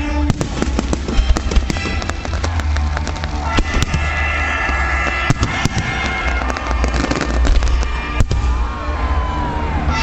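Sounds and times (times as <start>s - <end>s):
fireworks bangs and crackles: 0.1s - 8.8s.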